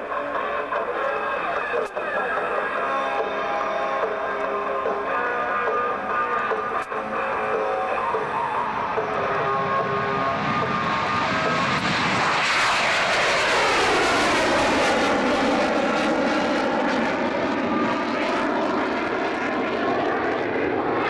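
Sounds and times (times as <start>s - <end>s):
jet engines at takeoff: 0.0s - 21.0s.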